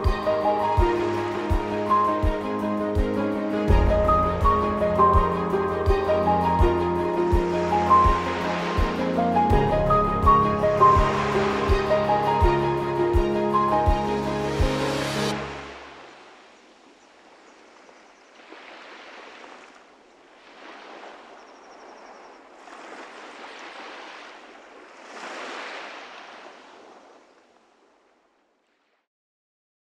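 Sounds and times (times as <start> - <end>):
ocean waves washing in: 0.0 - 28.8.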